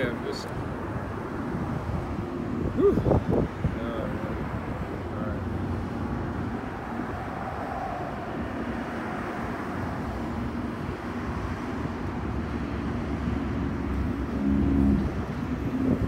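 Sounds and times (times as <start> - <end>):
faint engine hum: 0.0 - 16.0
vehicle traffic rumble: 0.0 - 16.0.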